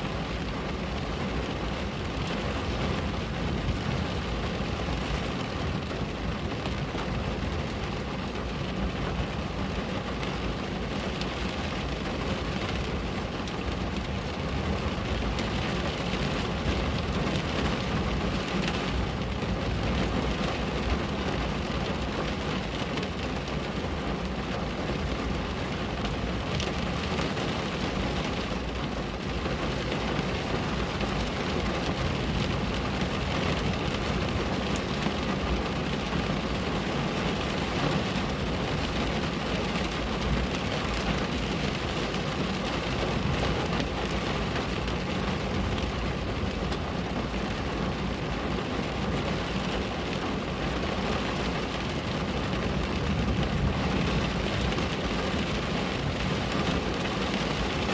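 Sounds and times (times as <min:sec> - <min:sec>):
rain on window glass: 0:00.0 - 0:57.9.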